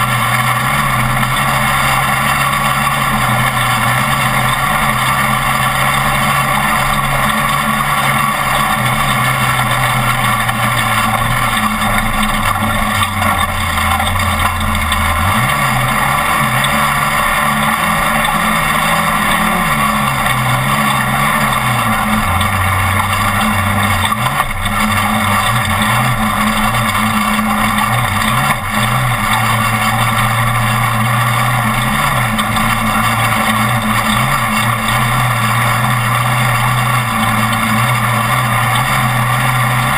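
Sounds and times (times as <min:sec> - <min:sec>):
rush of noise: 0:00.0 - 0:39.9
truck engine revving: 0:00.0 - 0:39.9.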